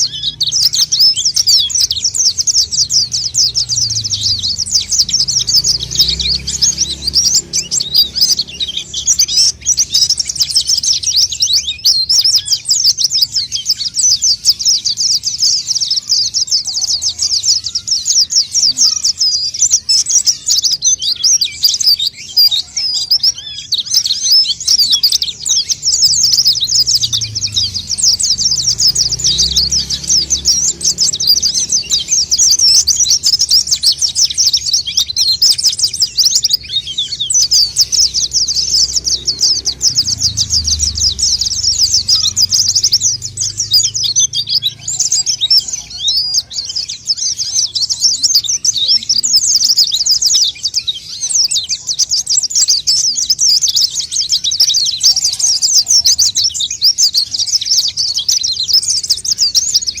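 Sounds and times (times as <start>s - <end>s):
bird twittering rapidly: 0.0s - 60.0s.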